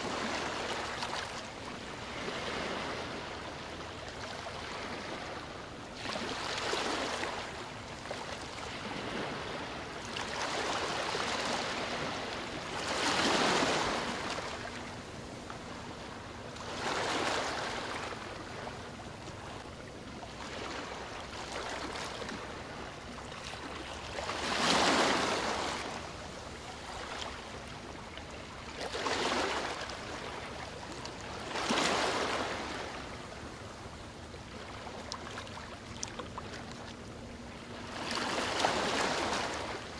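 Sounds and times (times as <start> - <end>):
waves splashing on riverbank: 0.0 - 19.0, 20.3 - 33.8, 34.5 - 39.9.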